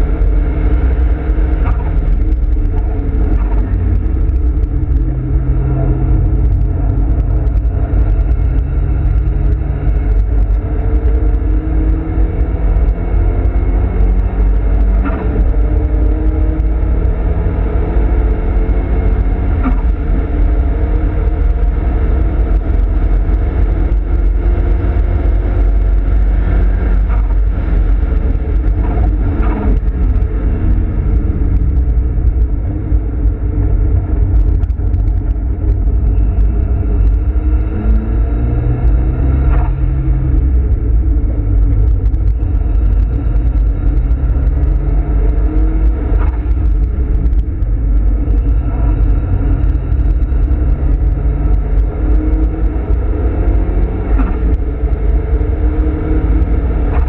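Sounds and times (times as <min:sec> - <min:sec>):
car engine revving: 0:00.0 - 0:57.0
road and wind rumble: 0:00.0 - 0:57.0.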